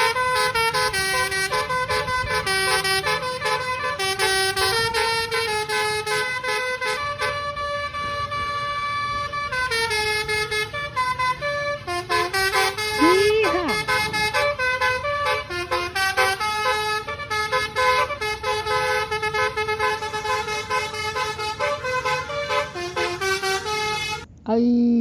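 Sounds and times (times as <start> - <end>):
multi-tone air horn tune: 0.0 - 24.3
low vehicle rumble: 0.0 - 25.0.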